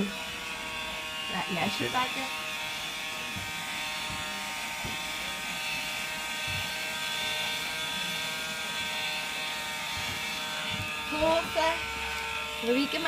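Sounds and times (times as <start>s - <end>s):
handheld vacuum motor whine: 0.0s - 13.0s.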